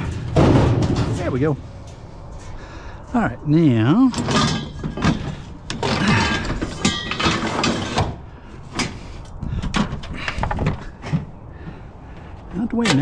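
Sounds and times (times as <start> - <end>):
scrap metal scraping and clanking: 0.0 - 11.4.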